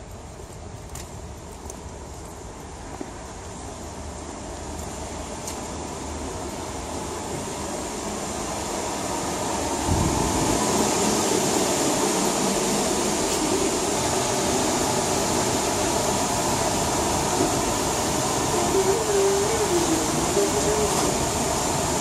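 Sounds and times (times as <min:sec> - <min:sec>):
rushing noise with hum: 0:00.0 - 0:22.0.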